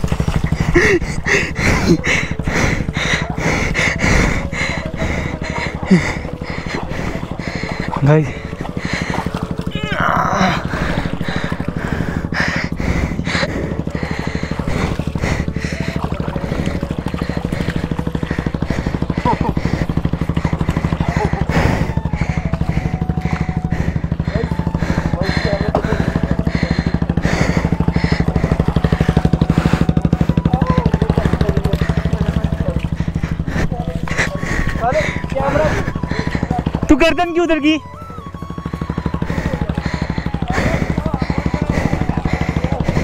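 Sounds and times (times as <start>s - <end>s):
motorcycle engine idling: 0.0s - 43.0s.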